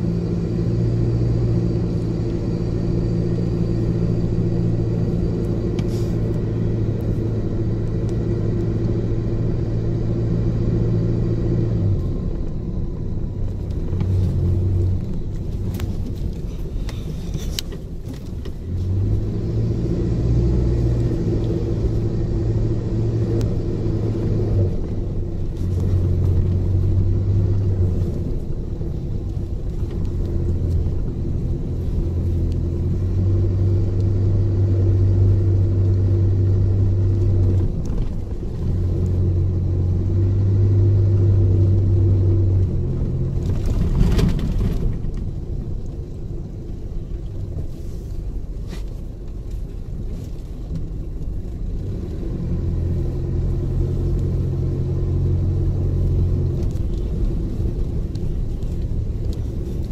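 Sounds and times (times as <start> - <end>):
vehicle engine drone: 0.0 - 59.9.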